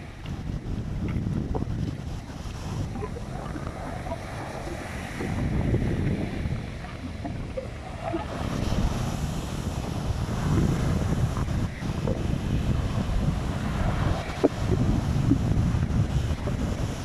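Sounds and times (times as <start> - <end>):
surf breaking on beach: 0.0 - 17.0
wind noise on microphone: 0.0 - 17.0.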